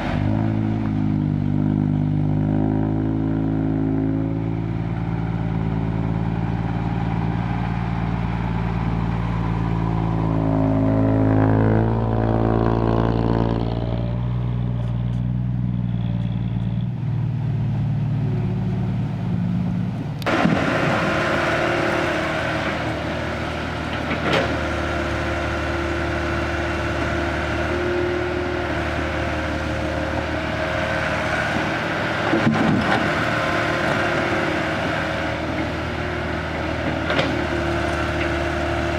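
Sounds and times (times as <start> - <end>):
diesel truck engine revving: 0.0 - 38.9
excavator engine and hydraulics: 0.0 - 38.9.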